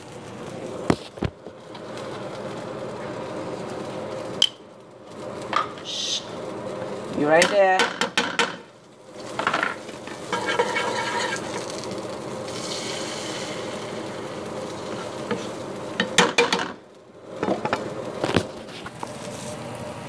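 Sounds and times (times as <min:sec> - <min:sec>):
omelette sizzling in frying pan: 0:00.0 - 0:20.0.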